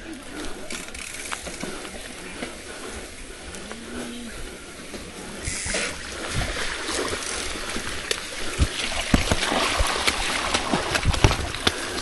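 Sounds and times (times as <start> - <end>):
bicycle tyres on dirt trail: 0.0 - 12.0.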